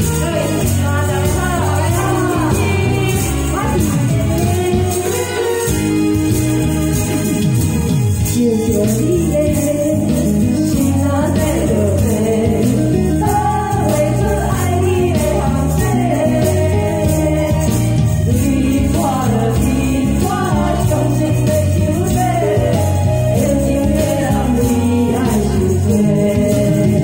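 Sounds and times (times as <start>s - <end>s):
women singing duet: 0.0s - 6.1s, 8.2s - 27.0s
backing track over loudspeaker: 0.0s - 27.0s
tambourines shaking: 0.0s - 27.0s.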